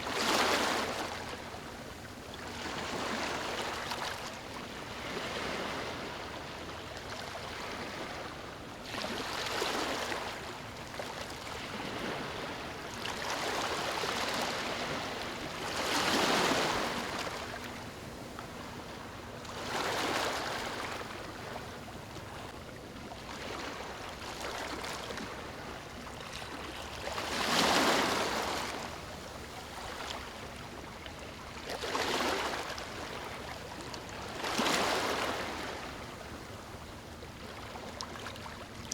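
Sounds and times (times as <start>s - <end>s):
small waves washing in: 0.0s - 38.9s.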